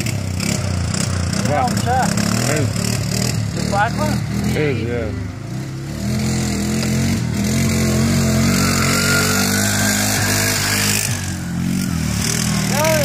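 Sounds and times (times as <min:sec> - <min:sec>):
quad engine revving: 0:00.0 - 0:13.0.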